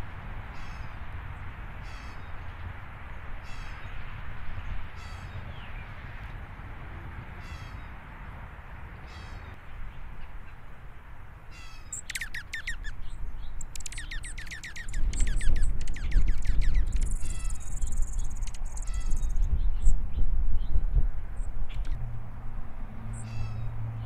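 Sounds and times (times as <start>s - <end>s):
birds twittering calls: 0.5s - 6.4s, 7.4s - 8.4s, 9.0s - 22.1s, 23.0s - 24.0s.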